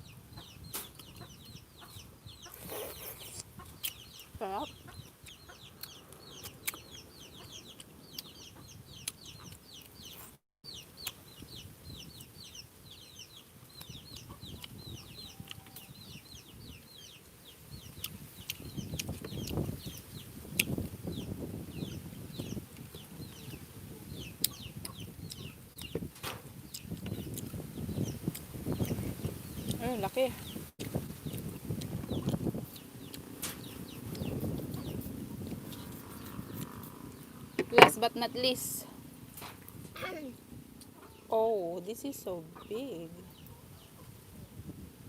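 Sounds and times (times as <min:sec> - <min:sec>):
chicks peeping: 0:00.0 - 0:44.8.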